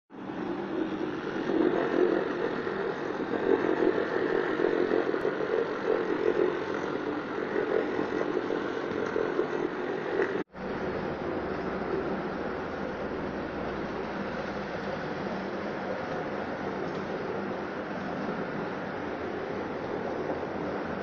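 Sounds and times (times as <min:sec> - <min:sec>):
carpet cleaner motor drone: 0:00.2 - 0:21.0.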